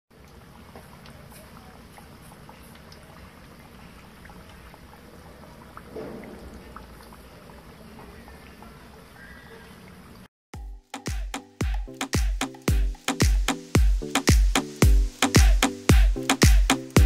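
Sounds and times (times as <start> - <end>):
hot oil sizzling and bubbling: 0.1 - 10.3, 11.8 - 17.0.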